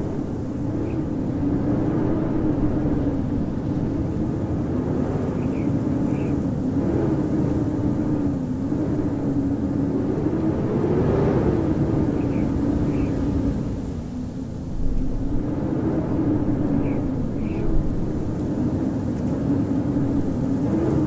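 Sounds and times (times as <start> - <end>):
howling wind: 0.0 - 21.0.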